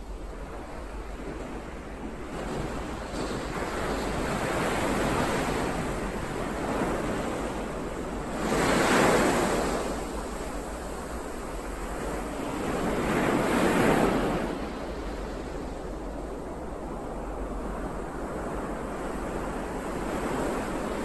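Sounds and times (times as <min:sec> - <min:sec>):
ocean waves breaking: 0:00.0 - 0:21.0
wind rumble on microphone: 0:00.0 - 0:21.0.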